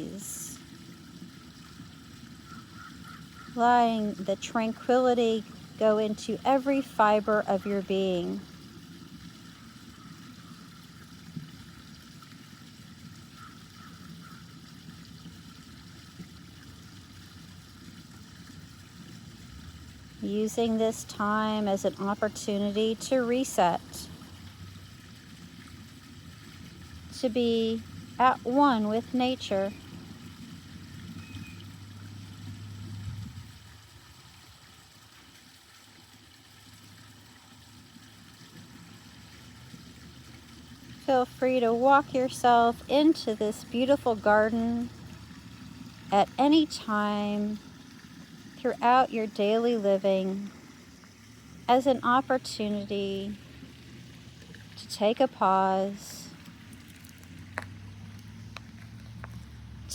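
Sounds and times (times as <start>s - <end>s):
low engine hum: 0.0s - 35.1s, 36.2s - 59.9s
small waterfall running: 0.0s - 59.9s.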